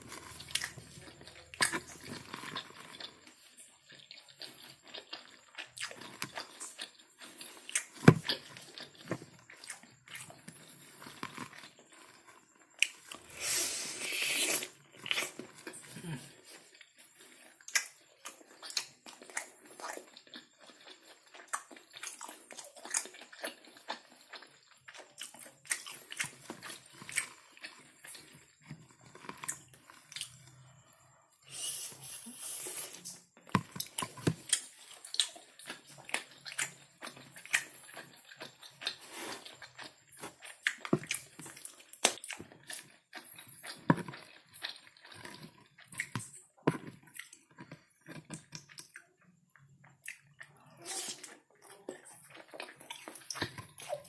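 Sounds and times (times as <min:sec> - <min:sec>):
wet chewing and mouth smacks: 0:00.0 - 0:54.0.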